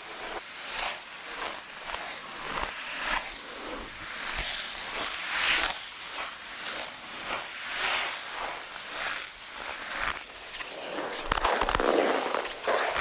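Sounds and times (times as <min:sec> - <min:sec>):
ice skate blades scraping ice: 0:00.0 - 0:13.0.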